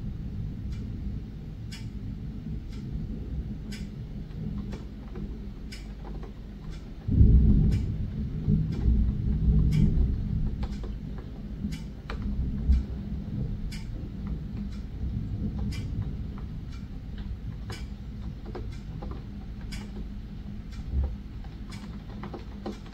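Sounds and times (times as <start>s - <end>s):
thunder rumbling: 0.0s - 21.4s
steady low rumble: 0.0s - 22.9s
sharp ticks: 3.7s - 22.9s.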